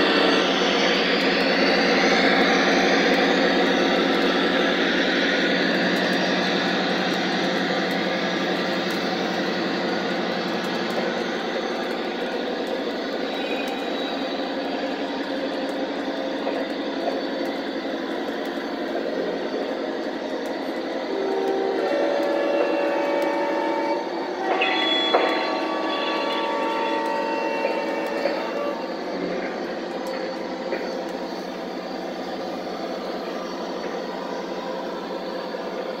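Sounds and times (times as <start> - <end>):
model train wheels rumbling on rail: 0.0 - 36.0.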